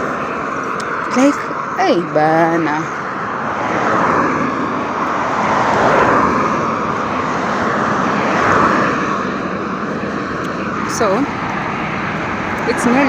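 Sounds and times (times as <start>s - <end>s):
highway traffic passing: 0.0s - 13.0s.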